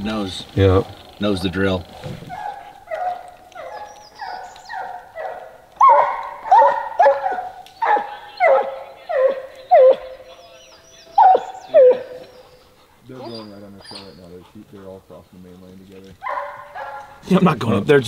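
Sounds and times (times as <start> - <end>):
hounds barking: 2.2 - 17.3.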